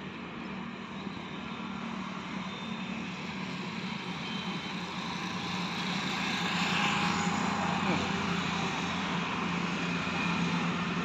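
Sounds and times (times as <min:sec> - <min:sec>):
engine drone: 0:00.1 - 0:11.0.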